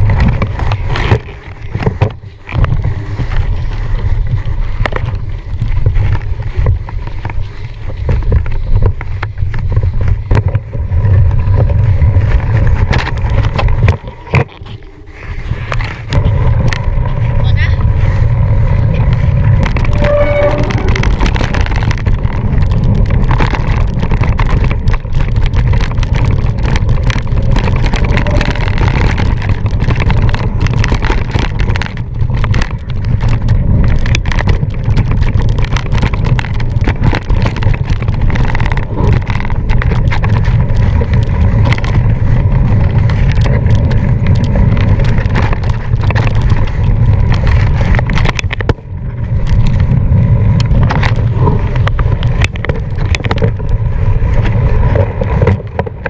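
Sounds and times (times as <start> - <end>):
bike clattering over rough ground: 0.0 - 56.0
wind on microphone: 0.0 - 56.0.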